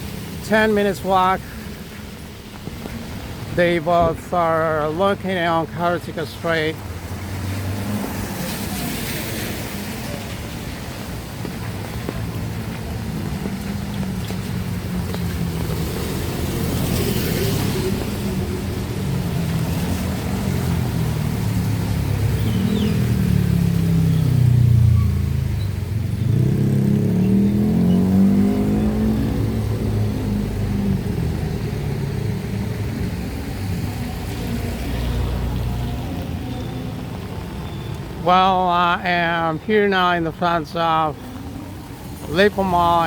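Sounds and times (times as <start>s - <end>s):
vehicle engines running: 0.0s - 43.0s.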